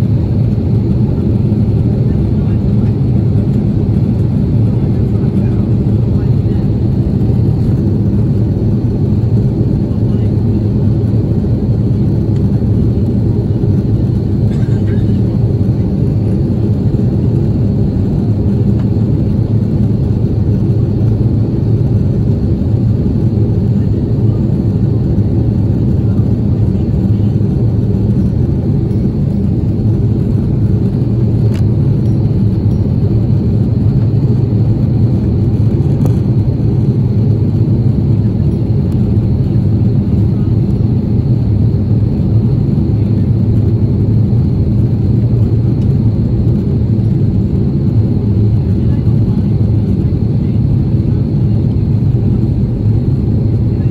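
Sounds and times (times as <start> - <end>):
jet engines rumbling in cabin: 0.0 - 53.9.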